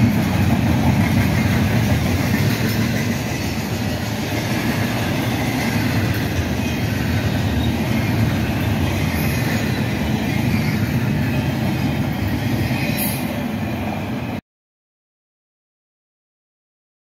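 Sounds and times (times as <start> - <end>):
steel wheels rumbling on rails: 0.0 - 14.4.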